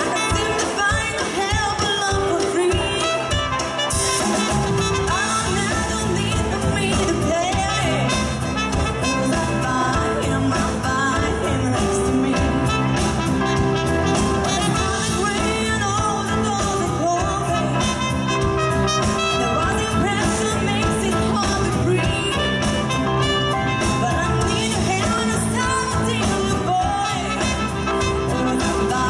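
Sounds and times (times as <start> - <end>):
live band playing: 0.0 - 29.0
trumpet melody: 0.0 - 29.0.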